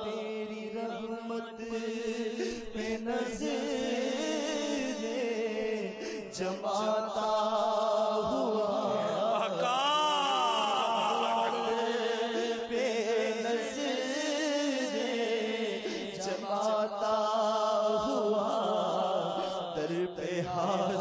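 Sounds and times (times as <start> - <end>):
solo voice chanting: 0.0 - 21.0.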